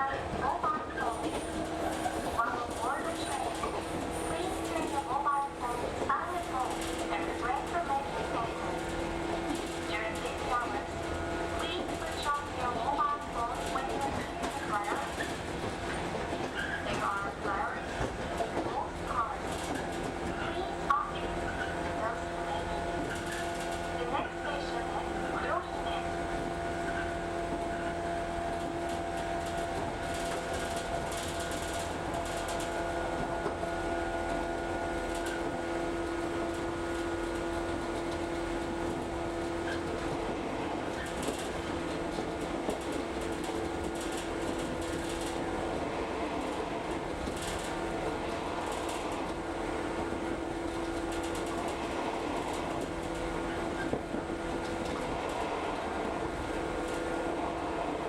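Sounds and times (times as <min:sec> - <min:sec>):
electric train interior hum: 0:00.0 - 0:58.0
rail clicks: 0:00.0 - 0:58.0.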